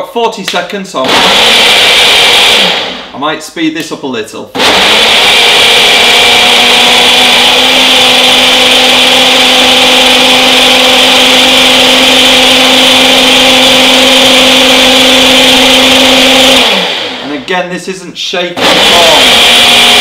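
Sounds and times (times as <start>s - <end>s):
blender running: 1.0s - 3.2s, 4.6s - 17.4s, 18.6s - 20.0s.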